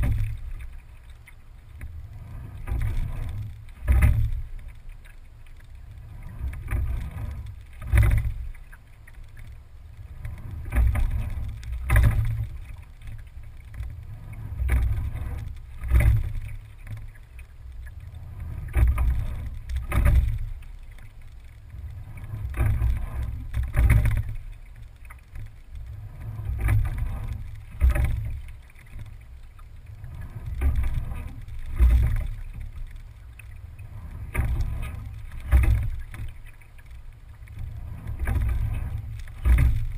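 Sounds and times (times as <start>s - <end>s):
oars clicking and knocking: 0.0s - 39.9s
water along boat hull: 0.0s - 39.9s
wind rumble on microphone: 0.0s - 39.9s.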